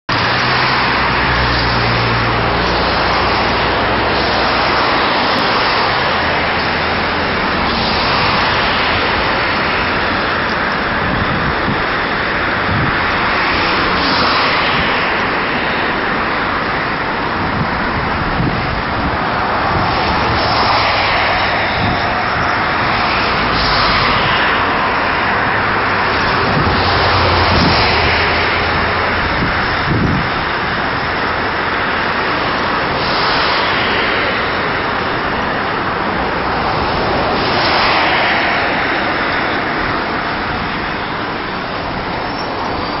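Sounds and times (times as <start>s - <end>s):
helicopter turbine and rotor noise: 2.3s - 43.0s.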